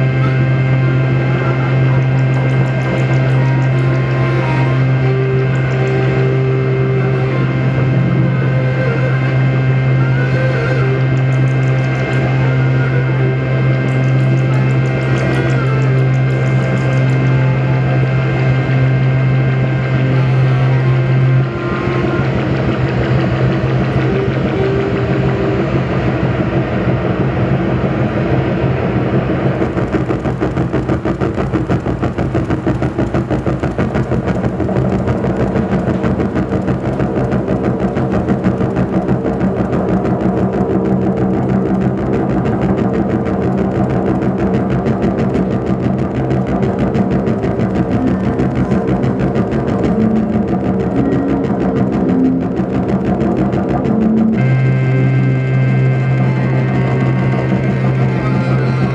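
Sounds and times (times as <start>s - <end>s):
fast pulsing electronic rhythm: 0.0s - 58.9s
low electronic drone: 0.0s - 58.9s.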